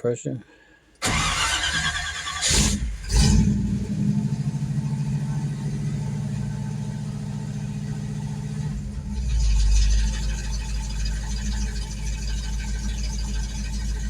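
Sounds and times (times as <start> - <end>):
car engine idling: 1.0 - 14.0.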